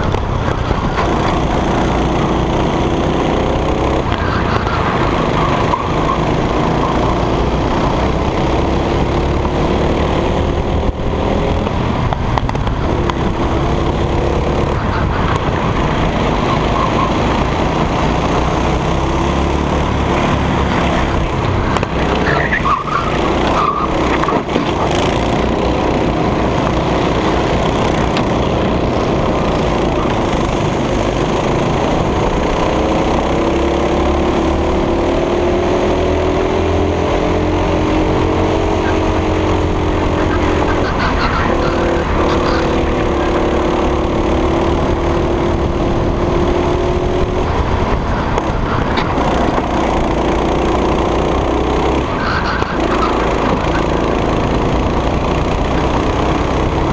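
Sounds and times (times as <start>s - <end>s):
go-kart engine running hard: 0.0s - 56.9s.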